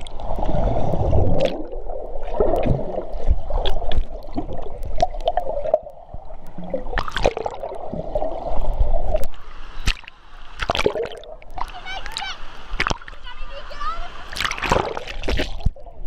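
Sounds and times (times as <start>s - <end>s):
underwater churning and gurgling: 0.0s - 11.8s, 14.2s - 16.0s.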